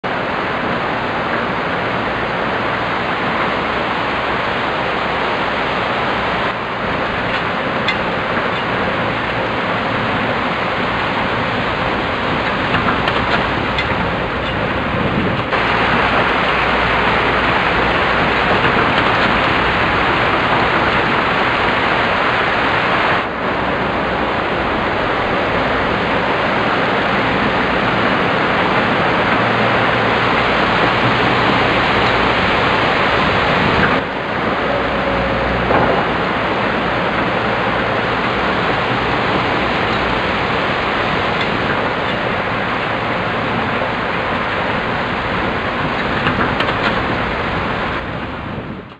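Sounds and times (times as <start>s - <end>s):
floodwater rushing over rocks: 0.0s - 48.9s.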